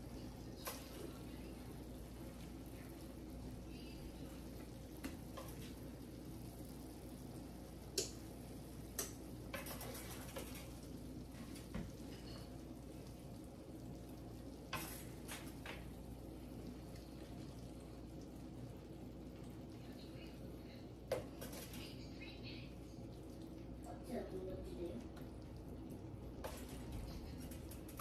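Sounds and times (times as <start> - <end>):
faint skillet sizzle: 0.0 - 28.0.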